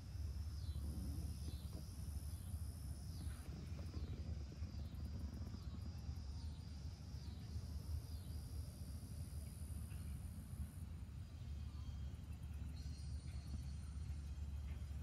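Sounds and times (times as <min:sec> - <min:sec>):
crickets chirping: 0:00.0 - 0:15.0
distant freight train rumbling: 0:00.0 - 0:15.0.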